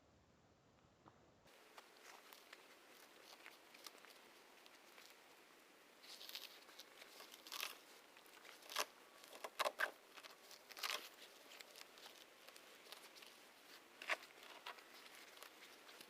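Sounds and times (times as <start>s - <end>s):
weeds rustling and tearing: 1.5s - 16.0s.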